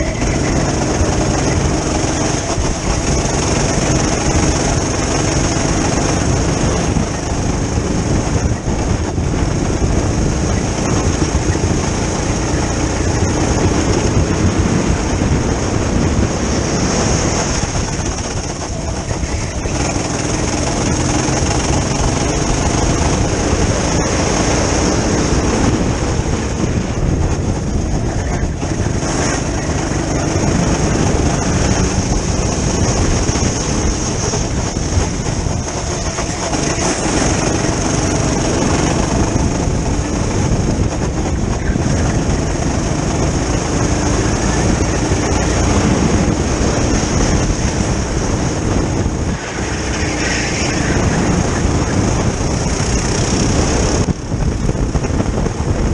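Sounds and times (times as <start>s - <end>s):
high-pitched whine: 0.0s - 55.9s
kart engine running hard: 0.0s - 55.9s
wind noise: 0.0s - 55.9s.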